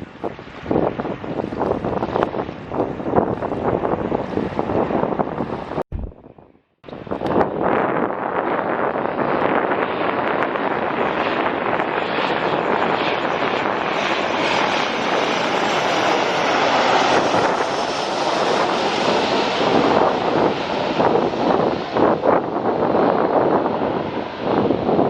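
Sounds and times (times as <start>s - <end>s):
jet engines running: 0.0s - 25.0s
wind buffeting microphone: 0.0s - 25.0s.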